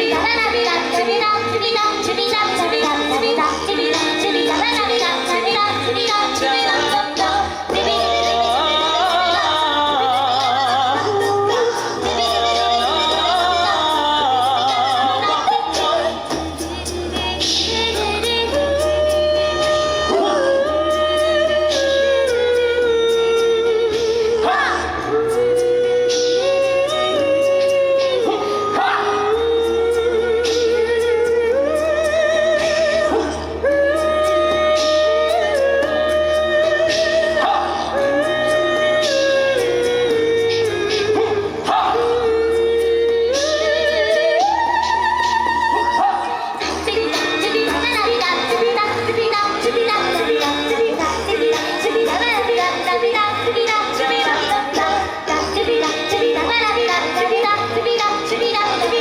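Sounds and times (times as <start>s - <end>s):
female voices singing with vibrato: 0.0s - 59.0s.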